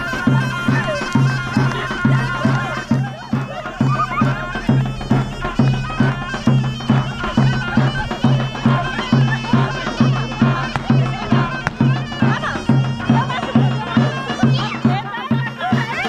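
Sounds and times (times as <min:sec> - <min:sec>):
shawm playing ornamented melody: 0:00.0 - 0:16.0
steady drum beat: 0:00.0 - 0:16.0.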